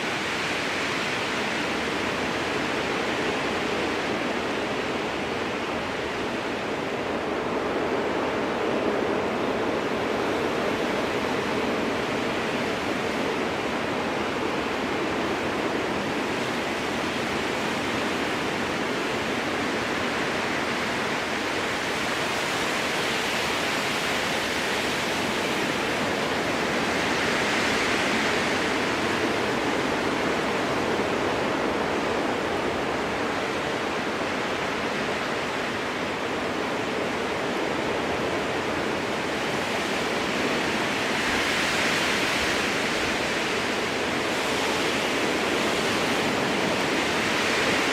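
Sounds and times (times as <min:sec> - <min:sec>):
strong wind through trees: 0:00.0 - 0:47.9.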